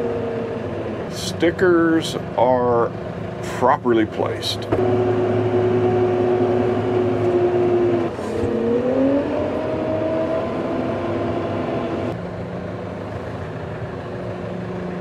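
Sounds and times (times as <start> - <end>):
tractor diesel engine revving: 0.0 - 12.2.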